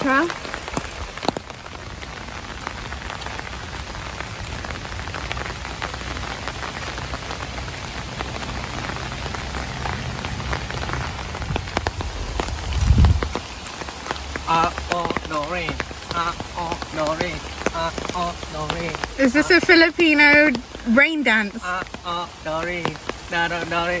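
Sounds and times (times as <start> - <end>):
heavy rain falling: 0.0 - 24.0
raindrops hitting close by: 0.0 - 24.0.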